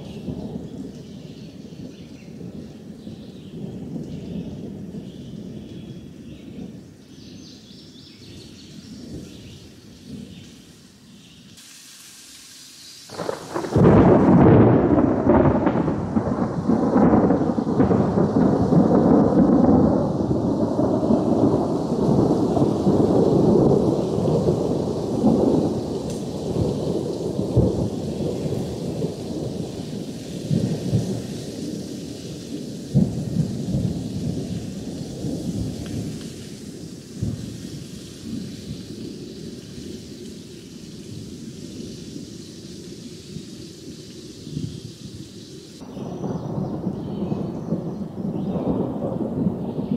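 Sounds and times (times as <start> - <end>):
thunderclap with rolling rumble: 0.0 - 7.0, 13.1 - 49.9.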